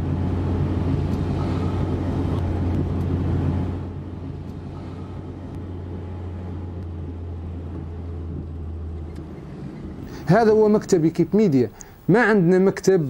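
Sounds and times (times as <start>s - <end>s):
car interior road and engine noise: 0.0s - 13.0s.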